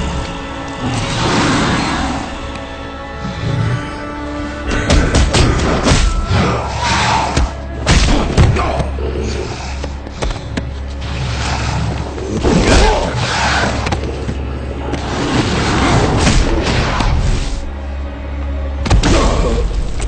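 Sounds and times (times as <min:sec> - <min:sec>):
low droning music: 0:00.0 - 0:20.0.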